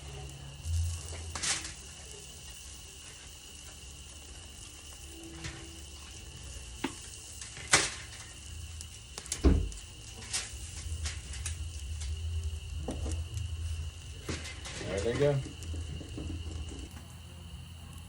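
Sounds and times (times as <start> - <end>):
food sizzling on a grill: 0.0 - 18.0.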